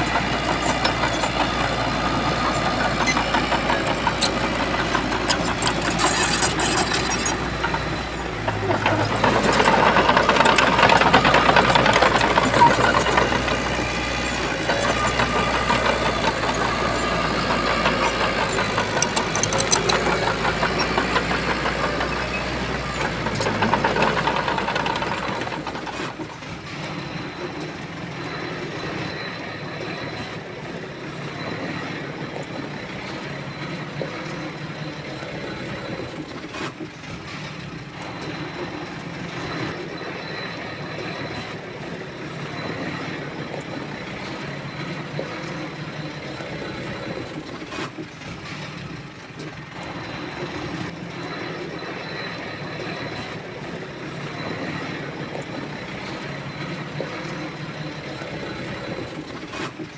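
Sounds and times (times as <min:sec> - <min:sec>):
heavy diesel engine working: 0:00.0 - 0:59.5.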